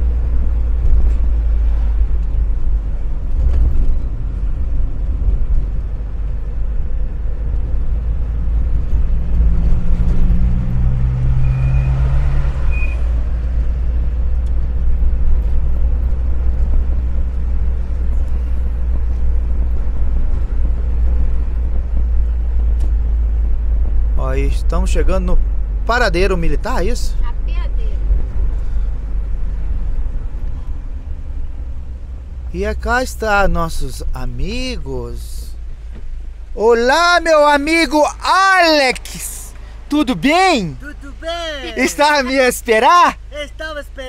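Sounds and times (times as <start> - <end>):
road noise: 0.0 - 44.0
vehicle engine: 0.0 - 44.0.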